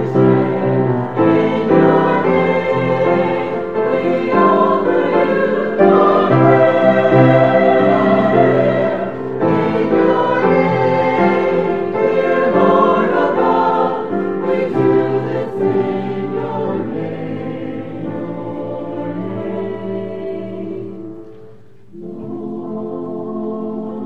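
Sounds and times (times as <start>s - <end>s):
choir singing in harmony: 0.0s - 24.0s.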